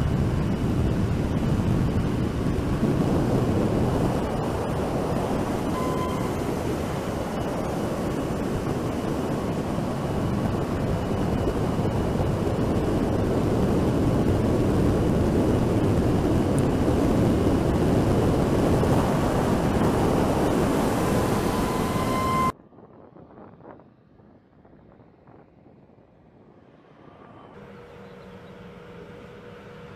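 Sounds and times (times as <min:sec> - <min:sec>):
faint high whine: 0:00.0 - 0:22.6, 0:26.6 - 0:29.9
wind on microphone: 0:00.0 - 0:27.1
wind and tyre noise: 0:00.0 - 0:29.9.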